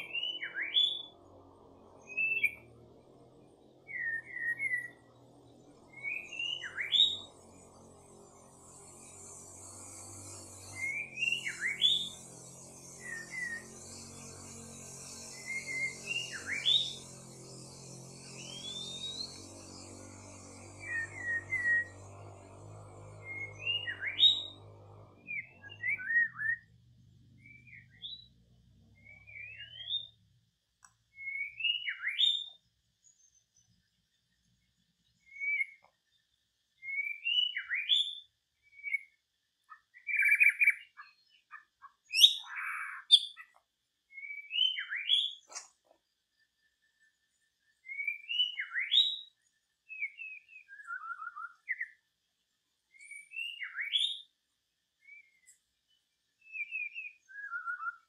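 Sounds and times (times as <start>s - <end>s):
bird calls with rising whistled notes: 0.0s - 30.4s, 31.0s - 58.0s.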